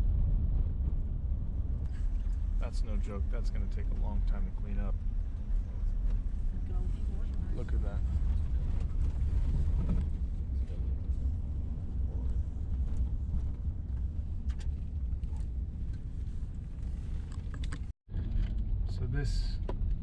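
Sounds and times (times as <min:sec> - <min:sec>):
low road rumble: 0:00.0 - 0:20.0.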